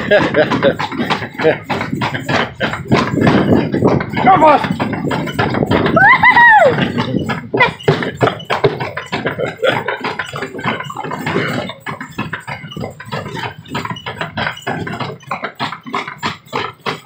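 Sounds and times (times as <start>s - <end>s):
carriage rattling over stone road: 0.0s - 17.0s.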